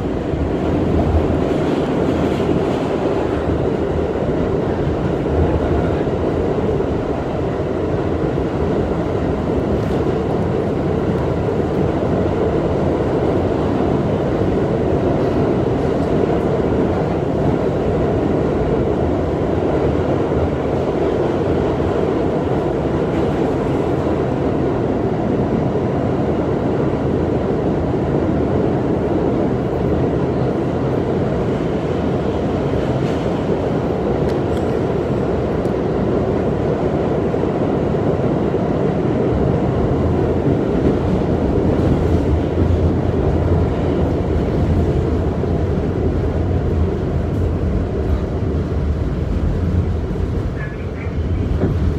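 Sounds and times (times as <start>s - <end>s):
subway car running: 0.0s - 51.9s.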